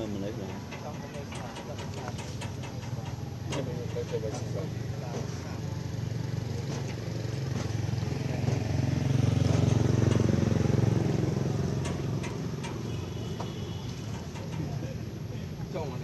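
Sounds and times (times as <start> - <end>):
vehicle engine passing: 0.0 - 15.8.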